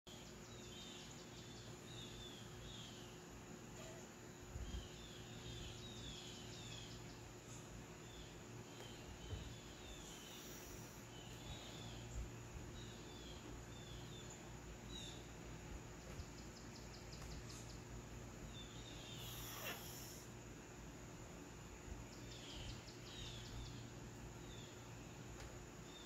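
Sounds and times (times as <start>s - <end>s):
faint bird chirping: 0.1s - 26.0s.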